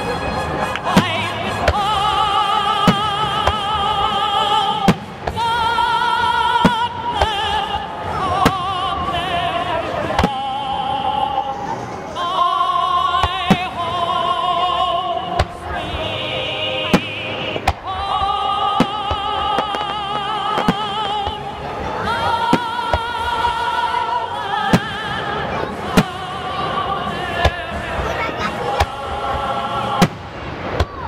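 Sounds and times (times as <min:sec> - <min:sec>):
fireworks banging: 0:00.0 - 0:31.0
music with singer holding long notes: 0:00.0 - 0:31.0.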